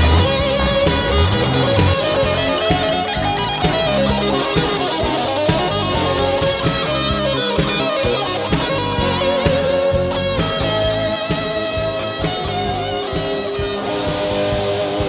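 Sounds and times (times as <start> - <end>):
electric guitar music with beat: 0.0 - 15.0.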